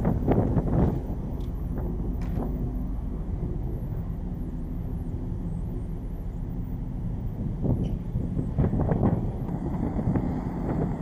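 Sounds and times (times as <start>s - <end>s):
faint steady hum: 0.0s - 11.0s
ship engines droning: 0.0s - 11.0s.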